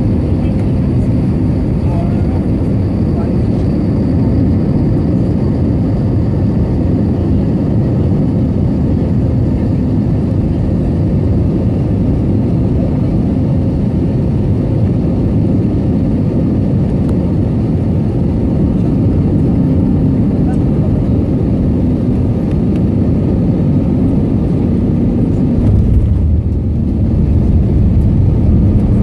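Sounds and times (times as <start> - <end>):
aircraft engines rumbling: 0.0 - 29.0.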